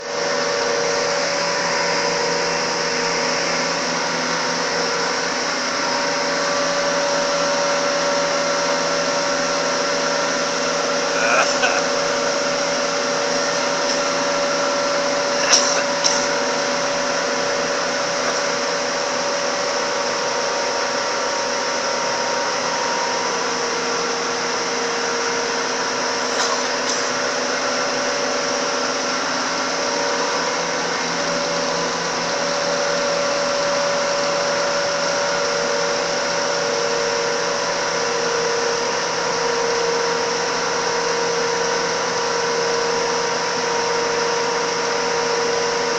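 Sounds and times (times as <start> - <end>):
grinding machine rushing and whining: 0.0 - 45.9.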